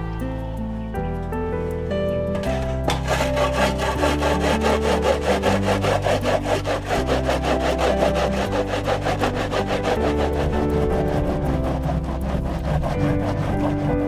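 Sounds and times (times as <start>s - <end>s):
corn rasping on a metal grater: 2.5s - 14.0s.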